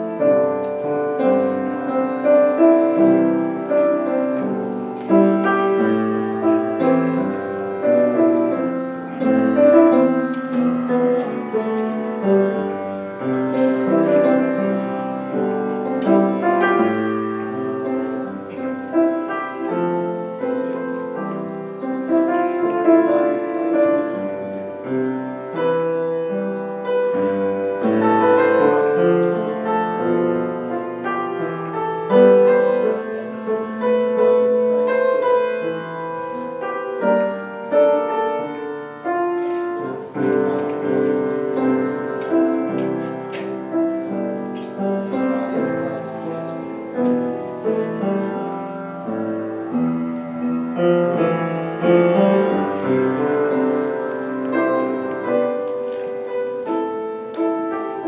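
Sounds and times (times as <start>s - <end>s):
solo piano slow chords: 0.0s - 58.0s.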